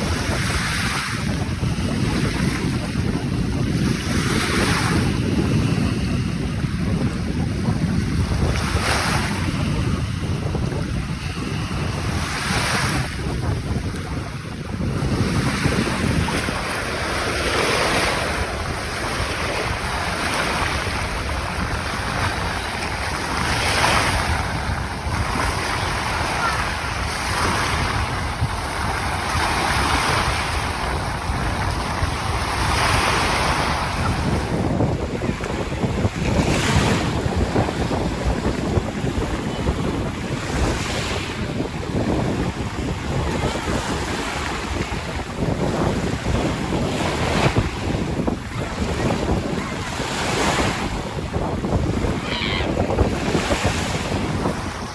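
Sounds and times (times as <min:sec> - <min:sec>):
waves washing onto shore: 0:00.0 - 0:54.9
wind buffeting microphone: 0:00.0 - 0:54.9.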